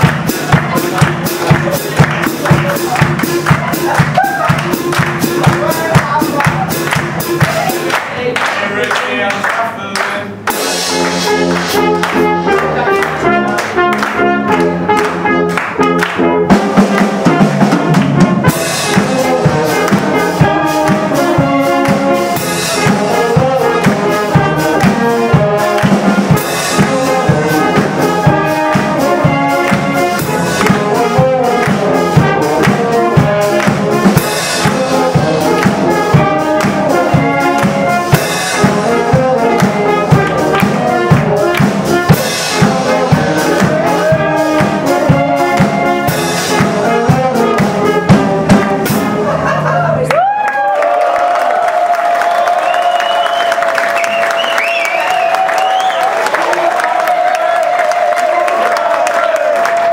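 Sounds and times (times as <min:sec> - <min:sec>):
wind band playing: 0:00.0 - 0:49.6
drum kit steady beat: 0:00.0 - 0:49.7.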